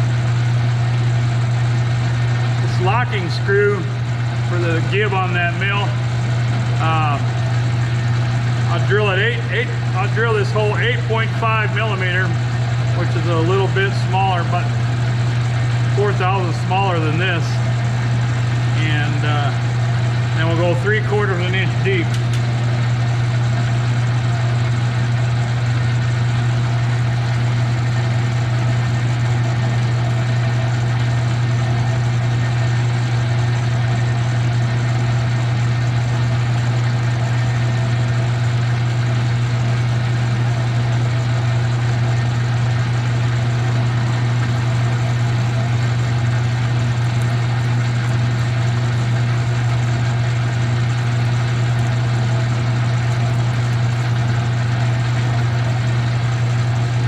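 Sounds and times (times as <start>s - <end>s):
metal lathe drilling hum: 0.0s - 57.0s.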